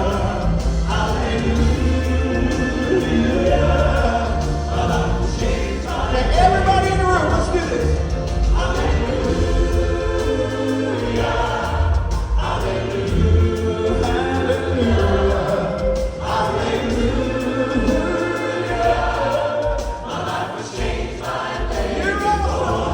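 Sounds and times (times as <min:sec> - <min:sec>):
band accompaniment: 0:00.0 - 0:22.9
male quartet singing in harmony: 0:00.0 - 0:22.9.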